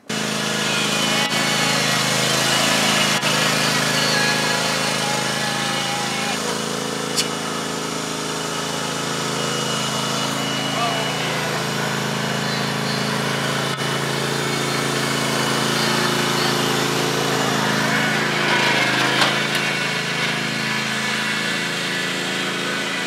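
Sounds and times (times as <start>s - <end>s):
riding lawn mower engine running: 0.0s - 23.0s.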